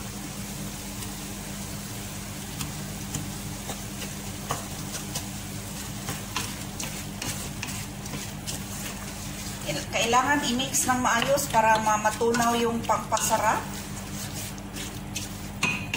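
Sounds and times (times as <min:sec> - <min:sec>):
chicken sizzling in a pot: 0:00.0 - 0:15.9
spatula knocking and scraping pot: 0:02.6 - 0:15.9.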